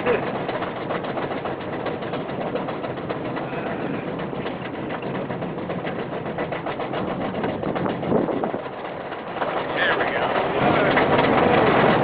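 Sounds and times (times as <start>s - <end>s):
roller coaster lift chain clicking: 0.0s - 12.0s.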